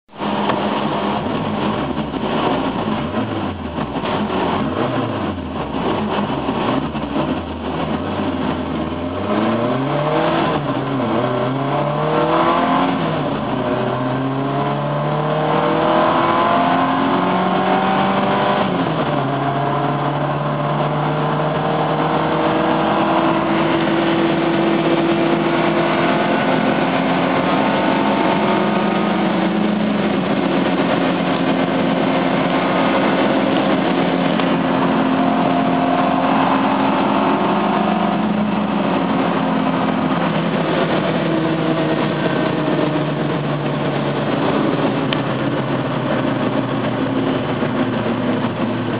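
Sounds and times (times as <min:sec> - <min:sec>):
car engine accelerating hard: 0:00.1 - 0:48.9.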